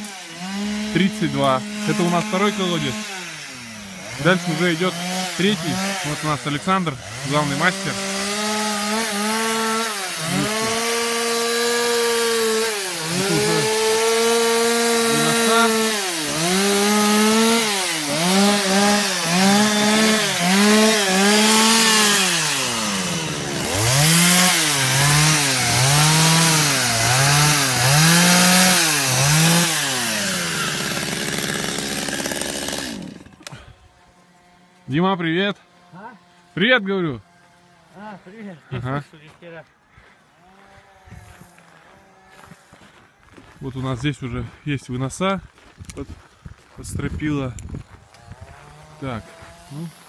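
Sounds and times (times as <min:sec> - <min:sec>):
chainsaw cutting log: 0:00.0 - 0:38.3, 0:40.3 - 0:42.9, 0:47.7 - 0:50.0.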